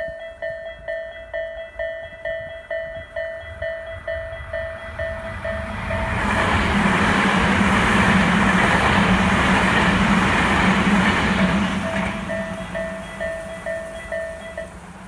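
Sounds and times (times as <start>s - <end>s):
electric train rushing past: 0.0s - 15.0s
level crossing warning bell: 0.0s - 15.0s.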